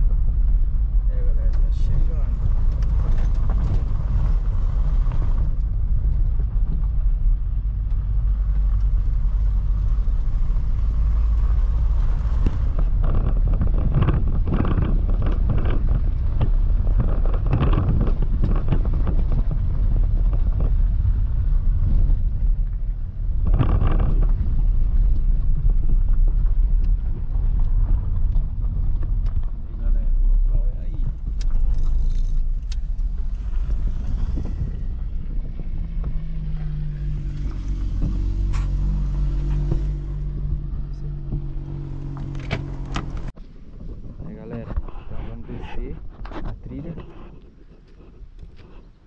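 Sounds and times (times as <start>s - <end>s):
car bumping and rattling: 0.0s - 49.0s
car driving rumble: 0.0s - 49.0s.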